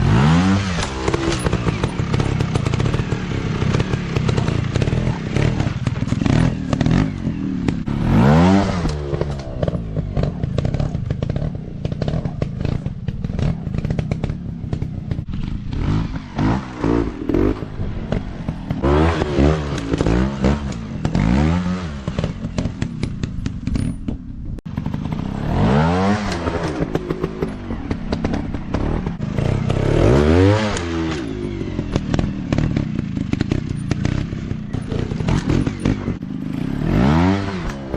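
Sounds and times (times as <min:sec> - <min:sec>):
dirt bike engines revving: 0:00.0 - 0:24.0, 0:24.7 - 0:37.9.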